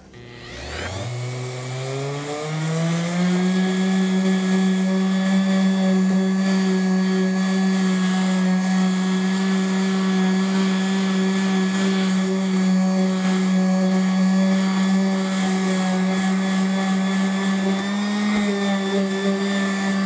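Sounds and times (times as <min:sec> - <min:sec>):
orbital sander on drywall: 0:00.0 - 0:20.0.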